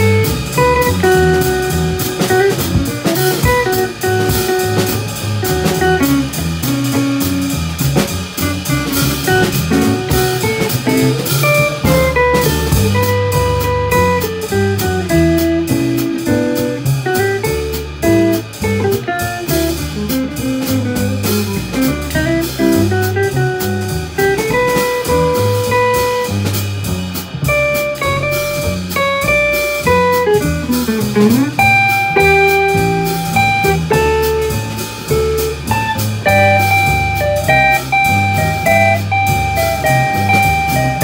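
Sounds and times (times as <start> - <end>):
acoustic guitar melody: 0.0 - 41.0
drum kit cymbals: 0.0 - 41.0
plucked upright bass: 0.0 - 41.0.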